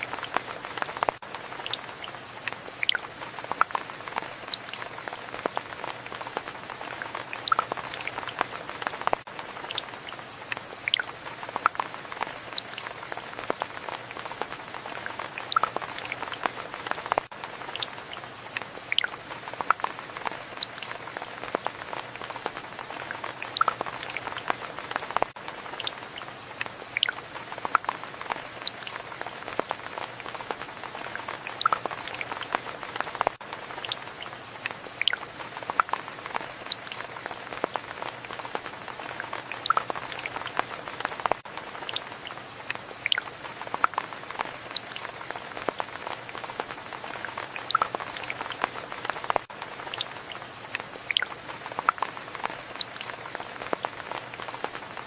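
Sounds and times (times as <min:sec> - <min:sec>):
raindrops ticking and plinking: 0:00.0 - 0:55.0
steady rainfall: 0:00.0 - 0:55.0.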